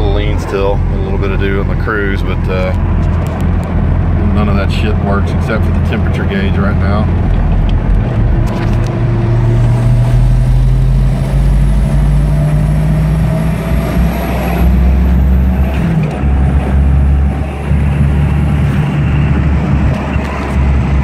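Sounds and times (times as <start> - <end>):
car engine accelerating: 0.0 - 21.0
road noise: 0.0 - 21.0.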